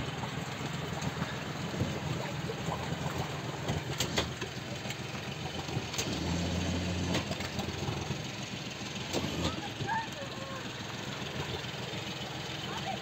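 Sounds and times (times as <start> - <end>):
outboard motor running slowly: 0.0 - 13.0.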